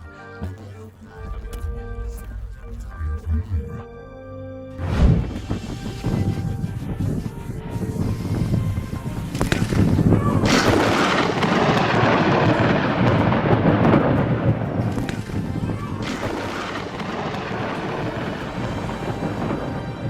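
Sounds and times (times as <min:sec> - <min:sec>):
thunder cracks: 0:01.2 - 0:20.0
thunder rumbling: 0:01.2 - 0:20.0.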